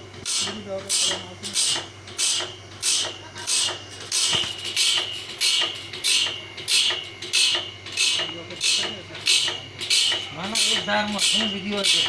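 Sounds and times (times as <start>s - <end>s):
motor hum: 0.0s - 12.0s.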